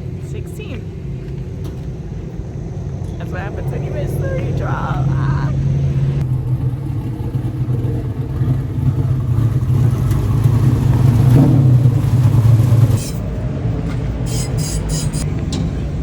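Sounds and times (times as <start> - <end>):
race car engine rumbling: 0.0 - 16.0.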